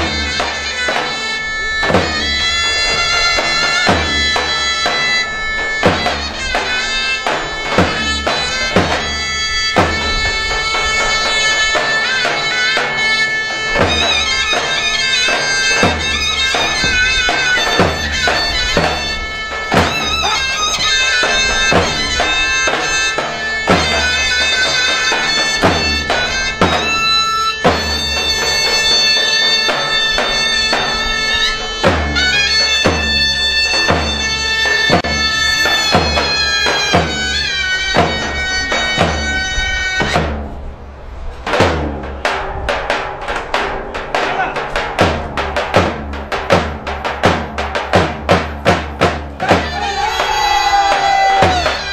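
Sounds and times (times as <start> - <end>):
heavy drum strokes: 0.0 - 51.9
shrill reed melody: 0.0 - 51.9.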